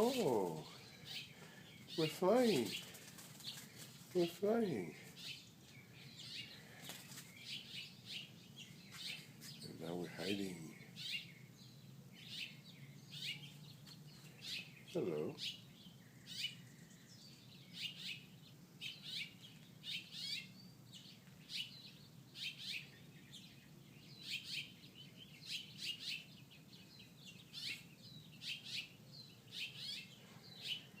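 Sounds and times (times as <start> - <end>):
small bird chirping: 0.0 - 31.0.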